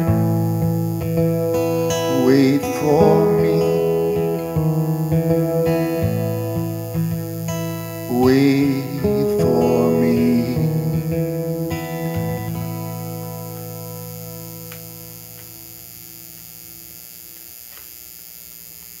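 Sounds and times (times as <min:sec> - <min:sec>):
acoustic guitar chord ringing: 0:00.0 - 0:16.2.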